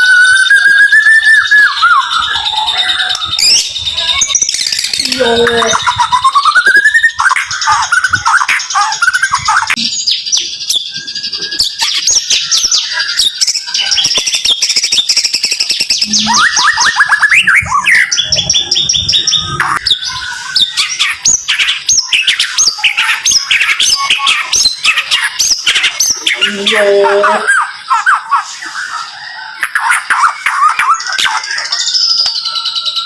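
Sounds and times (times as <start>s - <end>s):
songbird singing rapid high notes: 0.0s - 32.6s.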